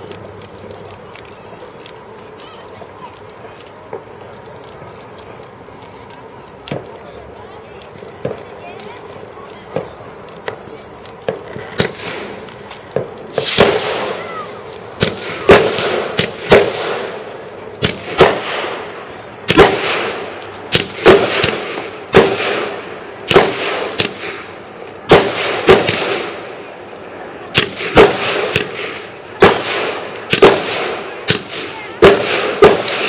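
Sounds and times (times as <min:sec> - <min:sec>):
fireworks bangs: 0:00.0 - 0:33.0.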